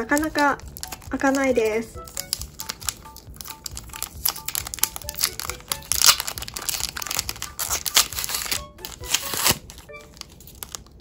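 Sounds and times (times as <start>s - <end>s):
foil bag crinkling: 0.0s - 11.0s
soft background music: 0.0s - 11.0s.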